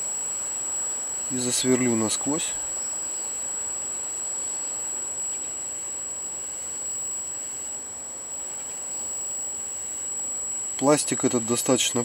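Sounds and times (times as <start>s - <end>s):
high-pitched whine of printing pen: 0.0s - 12.0s.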